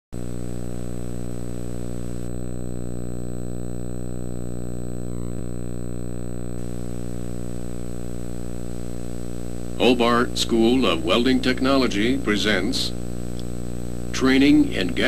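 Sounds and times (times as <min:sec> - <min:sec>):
electrical buzz with high whine: 0:00.1 - 0:15.0.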